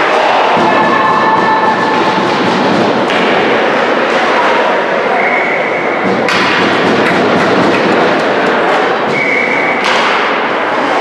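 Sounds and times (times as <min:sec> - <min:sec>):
crowd and rink noise: 0:00.0 - 0:11.0
faint voices: 0:00.0 - 0:11.0.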